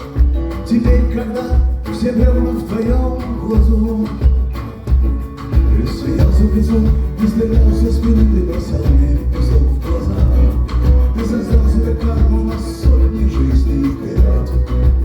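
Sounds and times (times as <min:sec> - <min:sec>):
live band playing: 0:00.0 - 0:15.0
pulsing bass: 0:00.2 - 0:15.0.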